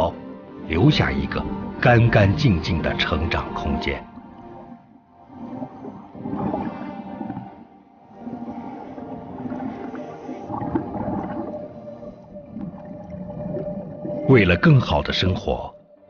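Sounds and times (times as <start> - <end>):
sustained drawn-out music tones: 0.0 - 16.0
watery gurgling texture: 0.7 - 16.0.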